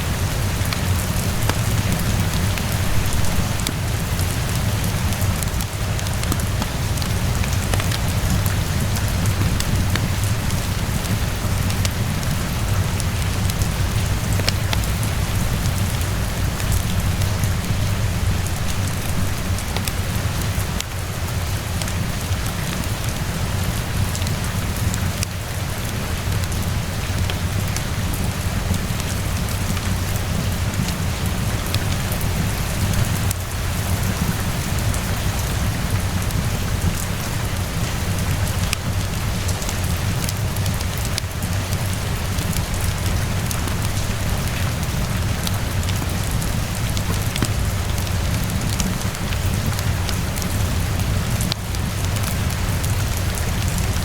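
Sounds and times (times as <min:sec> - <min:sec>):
steady rainfall hiss: 0:00.0 - 0:54.0
wood fire crackling: 0:00.0 - 0:54.0.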